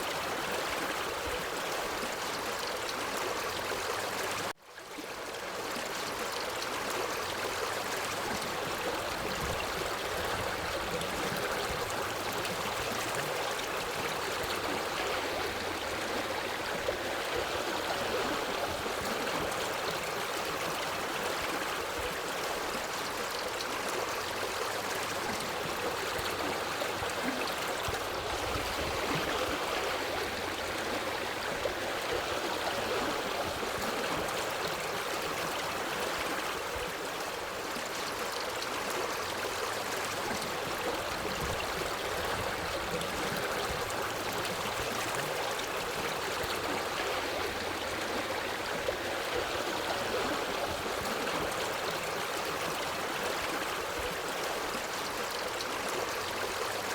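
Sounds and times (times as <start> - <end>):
forest stream flowing: 0.0 - 56.9.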